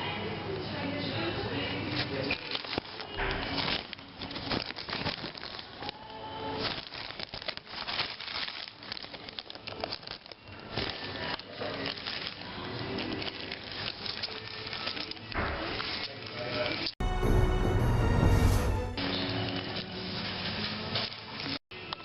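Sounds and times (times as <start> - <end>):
rustling and crackling handling noise: 1.6 - 17.0, 19.2 - 22.0.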